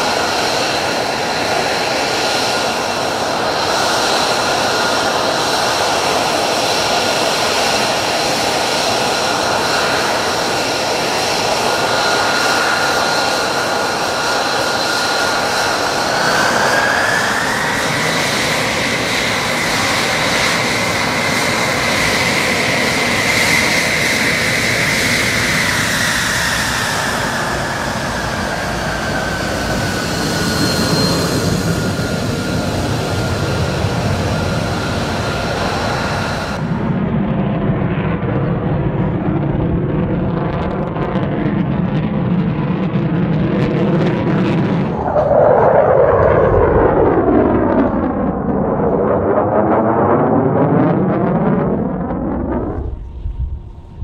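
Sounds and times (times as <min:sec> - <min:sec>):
jet engine whining and rushing: 0:00.0 - 0:54.0.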